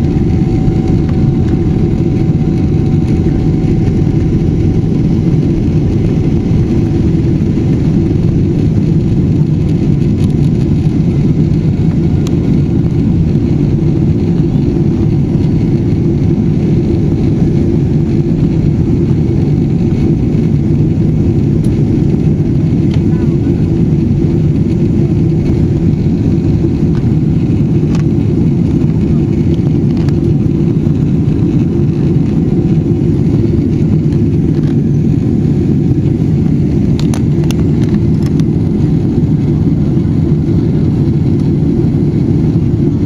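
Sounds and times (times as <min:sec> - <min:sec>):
airliner jet noise: 0:00.0 - 0:43.0.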